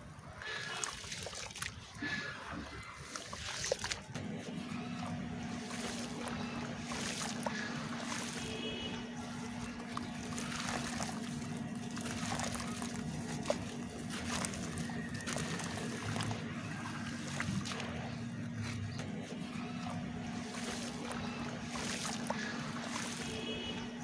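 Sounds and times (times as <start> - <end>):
dirt crumbling in water: 0.4 - 24.0
low hum: 1.8 - 24.0.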